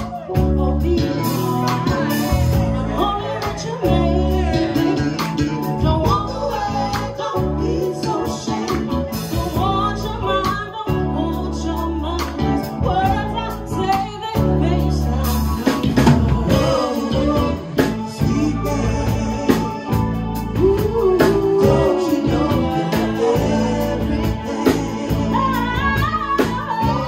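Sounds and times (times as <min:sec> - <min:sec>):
drums: 0:00.0 - 0:27.0
electric bass: 0:00.0 - 0:27.0
keyboards: 0:00.0 - 0:27.0
woman singing lead: 0:00.0 - 0:27.0.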